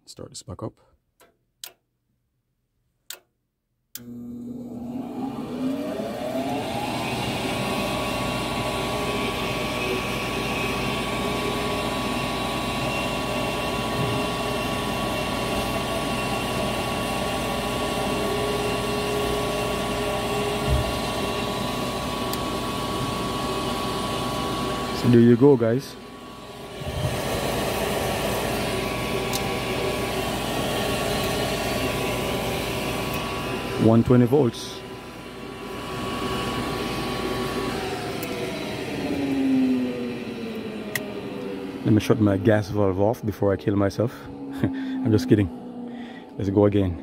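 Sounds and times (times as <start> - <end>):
furnace inducer motor whine: 4.0 - 47.0.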